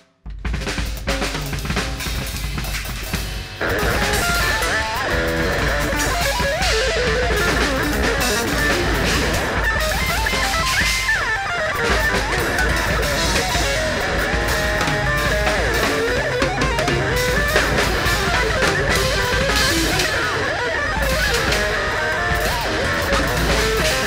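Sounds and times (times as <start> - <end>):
drum kit: 0.0 - 24.0
electric guitar solo: 3.6 - 24.0.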